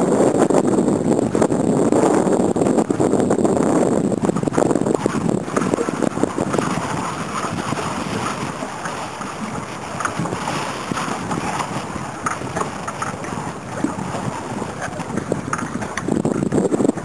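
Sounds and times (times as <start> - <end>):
waves lapping and splashing: 0.0 - 17.0
wind buffeting microphone: 0.0 - 17.0.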